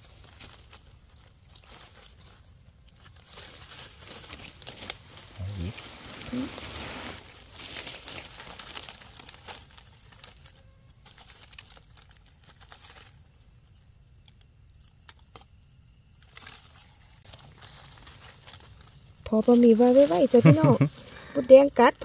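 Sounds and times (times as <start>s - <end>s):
dry leaves rustling and crackling: 0.0s - 14.4s, 16.2s - 21.6s.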